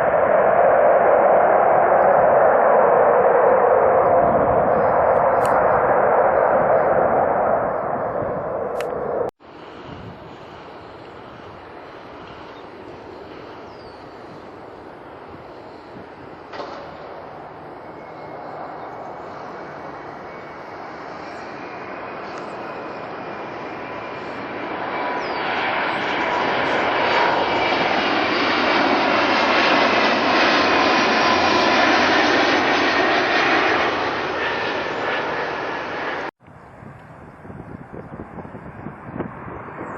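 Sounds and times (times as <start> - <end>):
jet airliner engines roaring past: 0.0 - 39.9.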